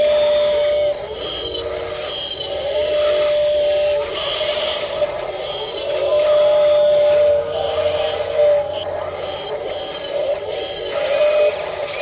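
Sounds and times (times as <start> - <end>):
electric gear motors whining: 0.0 - 12.0.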